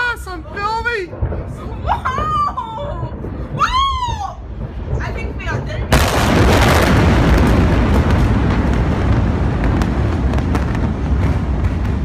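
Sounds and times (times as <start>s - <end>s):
explosion roar and rumble: 0.4s - 12.0s.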